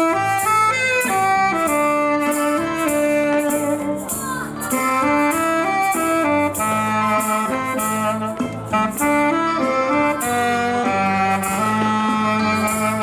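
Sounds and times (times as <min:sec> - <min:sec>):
backing accompaniment: 0:00.0 - 0:13.0
saxophone melody: 0:00.0 - 0:13.0
shakers keeping a beat: 0:00.0 - 0:13.0.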